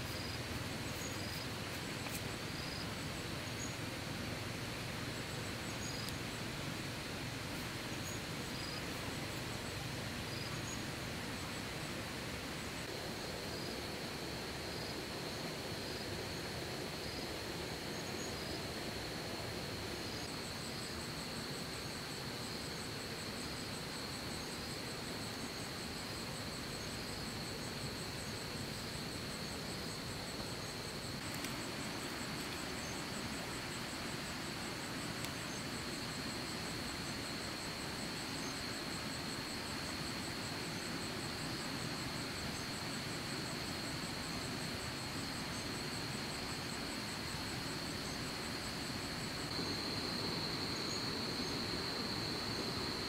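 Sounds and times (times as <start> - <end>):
background hiss: 0.0 - 53.0
insect continuous high trill: 0.0 - 53.0.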